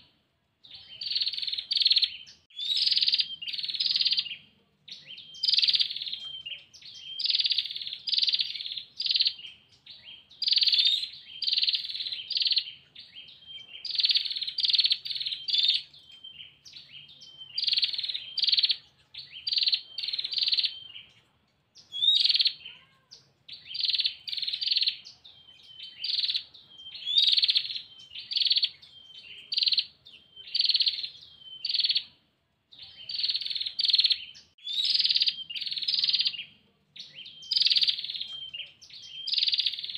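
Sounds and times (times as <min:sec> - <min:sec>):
bird trilling call: 0:00.8 - 0:21.1, 0:21.8 - 0:32.2, 0:32.9 - 0:39.9.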